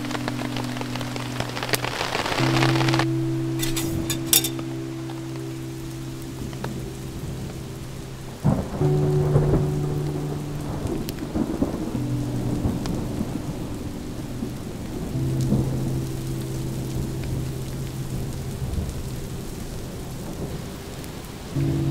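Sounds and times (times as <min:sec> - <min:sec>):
thunder rumble: 0:00.0 - 0:03.6, 0:04.6 - 0:21.9
low background chords: 0:00.0 - 0:21.9
rain falling: 0:00.0 - 0:21.9.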